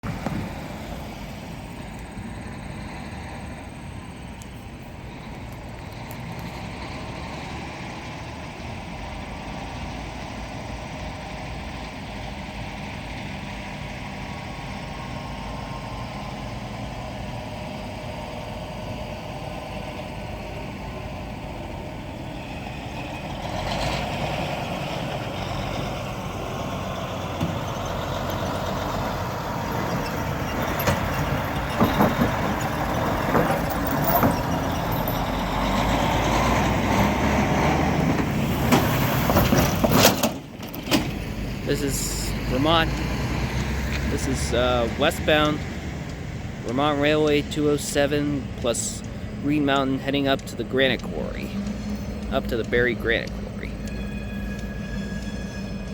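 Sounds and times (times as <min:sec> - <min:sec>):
diesel locomotive engine rumble: 0:00.0 - 0:55.9.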